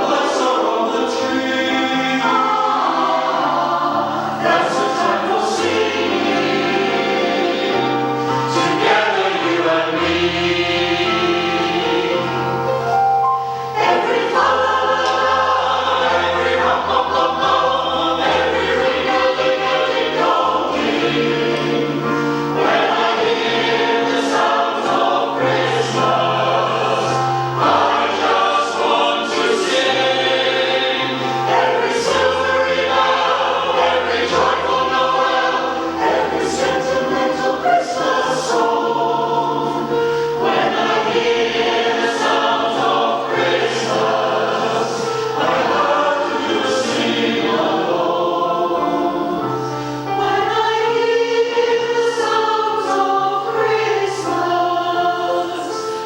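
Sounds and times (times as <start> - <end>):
choir singing in parts: 0.0 - 56.0.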